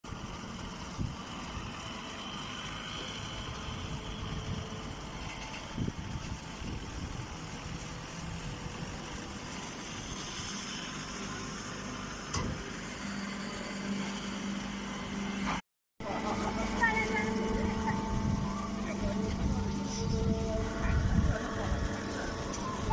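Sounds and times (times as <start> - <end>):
low hum: 0.1 - 22.9
machinery running: 0.1 - 22.9.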